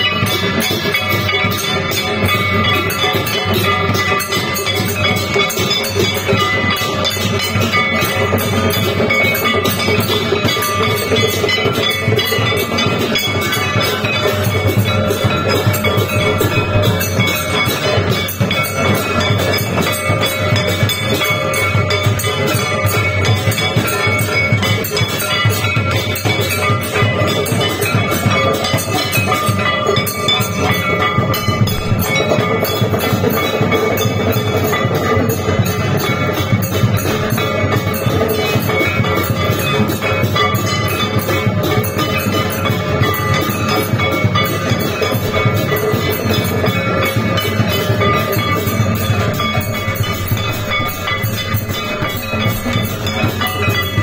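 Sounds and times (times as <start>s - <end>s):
bells ringing: 0.0s - 54.0s
drumming: 0.0s - 54.0s
metal gongs struck rapidly: 0.0s - 54.0s.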